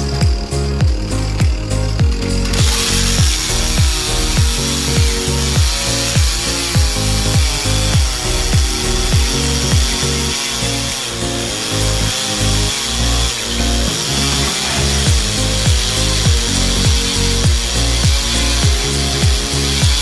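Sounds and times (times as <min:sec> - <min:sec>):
background music with bass beat: 0:00.0 - 0:20.0
chainsaw cutting through log: 0:00.0 - 0:20.0.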